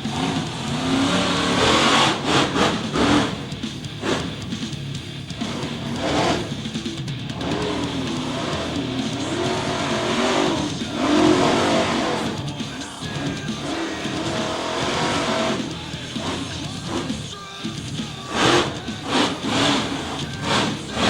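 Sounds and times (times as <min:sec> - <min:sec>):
music playing: 0:00.0 - 0:21.0
truck engine revving: 0:00.0 - 0:21.0.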